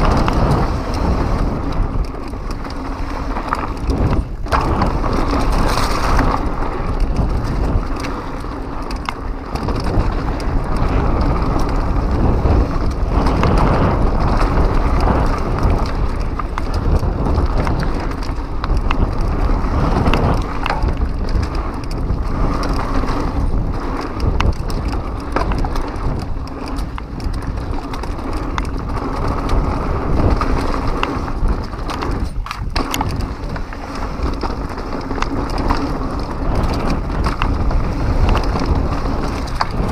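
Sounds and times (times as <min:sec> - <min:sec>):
bike rattling: 0:00.0 - 0:39.9
bike tyres rumbling over dirt: 0:00.0 - 0:39.9
wind on microphone: 0:00.0 - 0:39.9.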